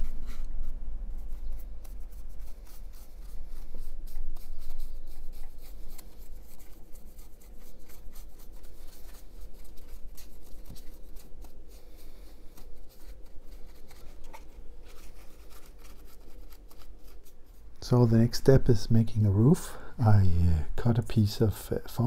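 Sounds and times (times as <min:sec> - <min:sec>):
paintbrush scratching on plaster: 0:00.0 - 0:18.7
steady low hum: 0:00.0 - 0:22.0.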